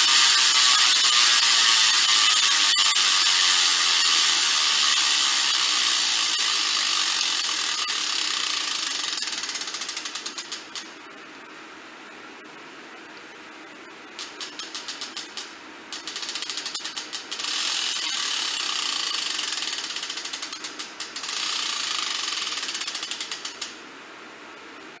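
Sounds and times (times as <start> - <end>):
bicycle freehub clicking: 0.0 - 10.9, 14.2 - 23.8.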